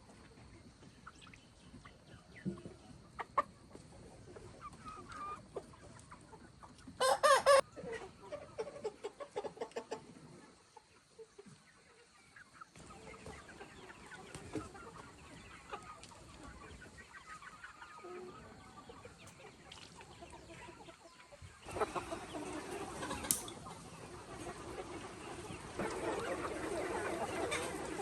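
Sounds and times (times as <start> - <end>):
chickens clucking and chirping: 0.0 - 28.0.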